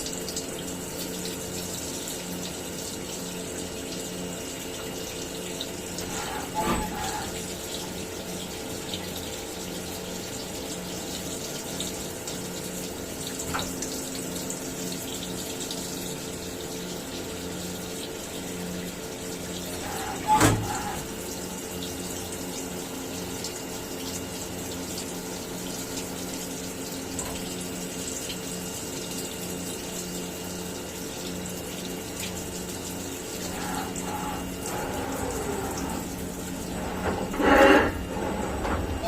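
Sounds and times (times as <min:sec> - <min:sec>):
milling machine humming: 0:00.3 - 0:39.0.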